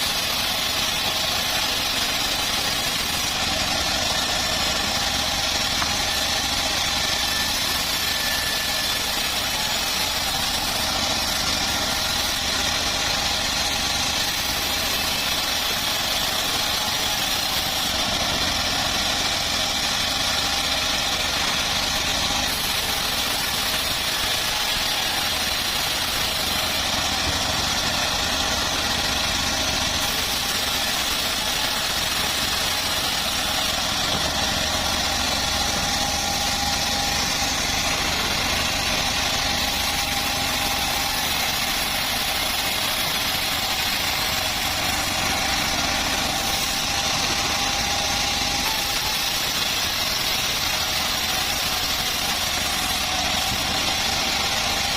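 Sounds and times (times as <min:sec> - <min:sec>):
engine-driven bandsaw mill running: 0:00.0 - 0:54.9.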